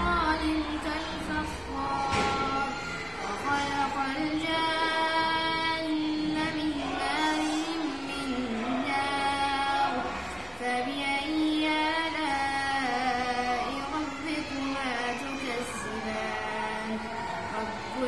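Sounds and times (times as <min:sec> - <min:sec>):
boy chanting melodic recitation: 0:00.0 - 0:18.0.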